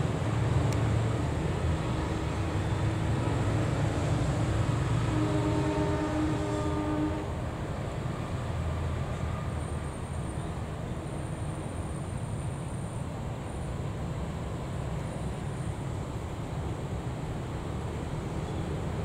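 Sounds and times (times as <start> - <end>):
diesel locomotive approaching: 0.0 - 19.0
road traffic rumble: 0.0 - 19.0.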